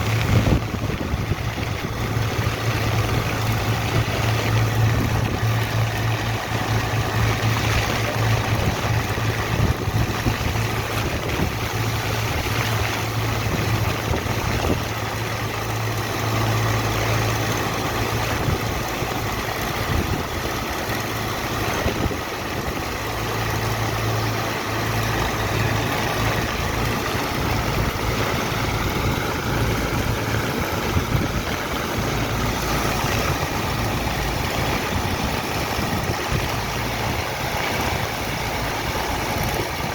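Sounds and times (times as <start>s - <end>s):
constant rushing noise: 0.0s - 39.9s
engine and pump low hum: 0.0s - 39.9s.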